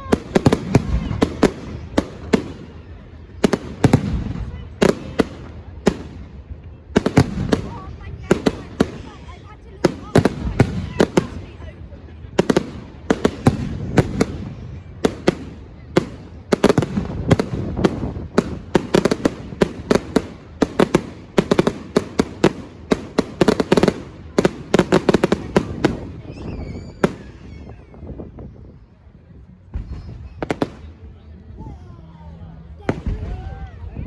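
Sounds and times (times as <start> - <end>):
fireworks bangs and cracks: 0.0 - 28.5, 29.6 - 31.0, 32.8 - 34.0.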